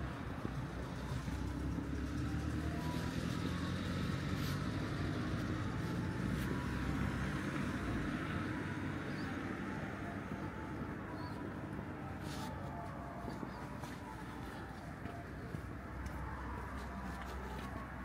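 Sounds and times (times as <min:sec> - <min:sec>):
vehicle engine passing: 0:00.5 - 0:18.0.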